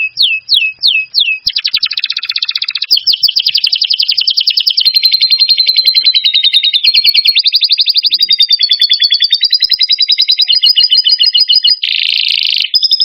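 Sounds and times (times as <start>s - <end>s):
songbird trilling: 0.0s - 13.0s.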